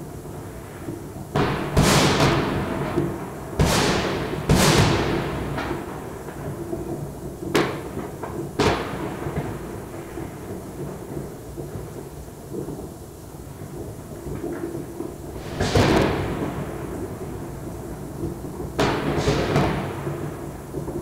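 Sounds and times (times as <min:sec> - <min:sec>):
firecracker cracks: 0:00.0 - 0:21.0
fireworks bangs: 0:00.0 - 0:21.0.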